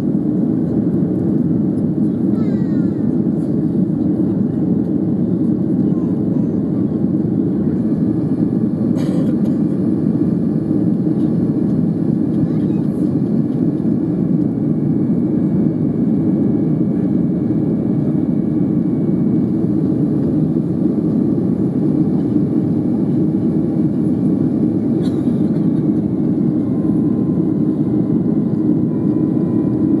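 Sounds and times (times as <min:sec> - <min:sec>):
jet engine cabin noise: 0:00.0 - 0:30.0.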